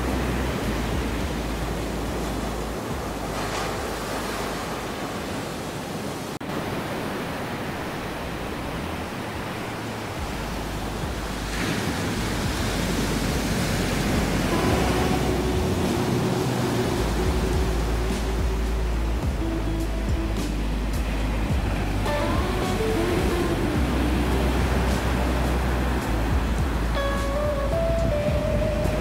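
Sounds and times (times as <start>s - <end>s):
ocean surf breaking on beach: 0.0s - 29.0s.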